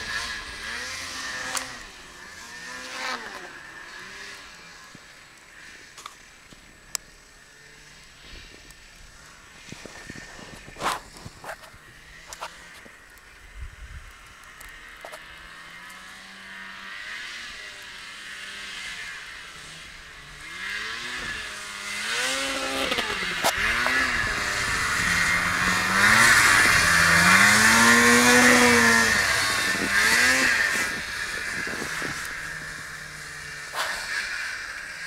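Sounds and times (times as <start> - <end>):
snowmobile engine revving: 0.0 - 13.5, 14.2 - 35.0.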